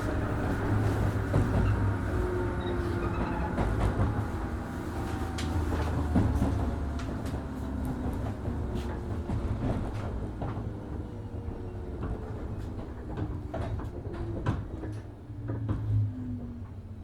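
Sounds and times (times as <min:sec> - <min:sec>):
rail clicks and knocks: 0:00.0 - 0:16.9
train interior rumble: 0:00.0 - 0:17.0.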